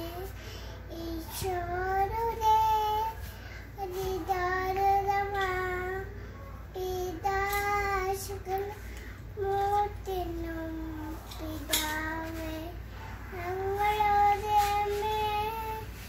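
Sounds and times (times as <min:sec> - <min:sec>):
girl singing unaccompanied: 0:00.0 - 0:16.0.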